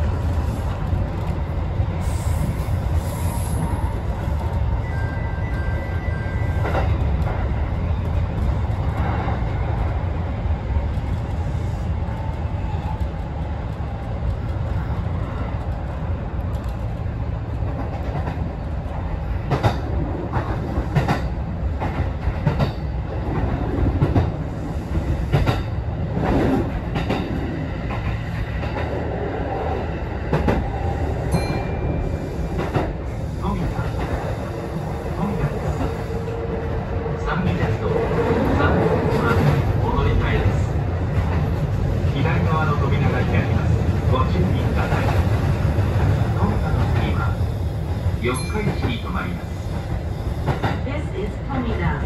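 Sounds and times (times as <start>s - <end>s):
train low rumble: 0.0s - 52.0s.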